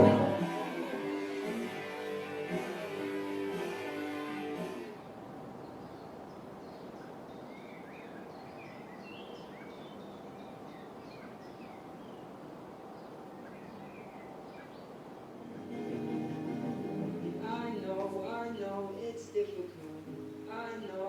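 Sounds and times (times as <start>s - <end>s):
outdoor ambience hiss: 0.0s - 21.0s.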